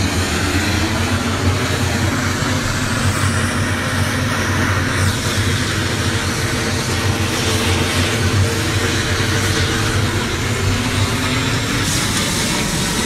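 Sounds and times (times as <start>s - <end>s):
helicopter engines and rotor drone: 0.0s - 13.0s.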